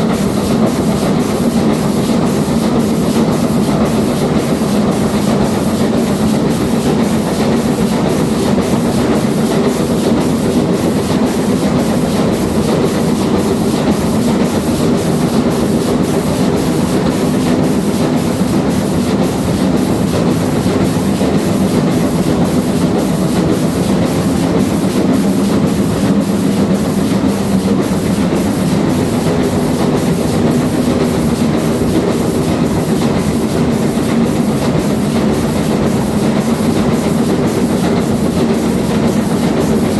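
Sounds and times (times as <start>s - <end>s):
steam train rumble: 0.0s - 39.9s.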